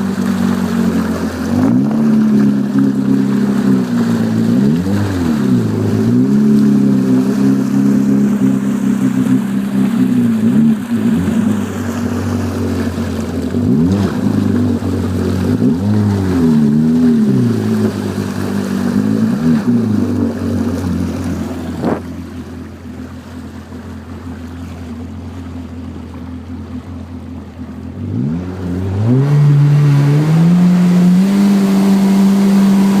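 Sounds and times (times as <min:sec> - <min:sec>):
personal watercraft engine revving: 0:00.0 - 0:33.0.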